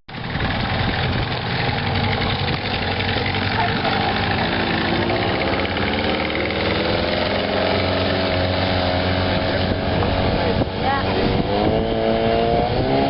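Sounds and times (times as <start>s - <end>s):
boat motor running: 0.1s - 12.9s.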